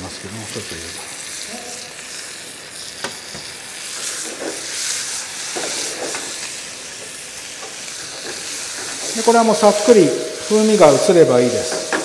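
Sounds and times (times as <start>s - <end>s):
food sizzling in hot oil: 0.0s - 12.0s
stirring in a pan: 1.1s - 12.0s.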